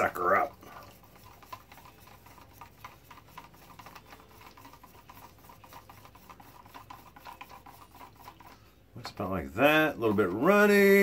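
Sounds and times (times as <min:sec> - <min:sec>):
stick scraping plastic cup: 0:00.0 - 0:11.0.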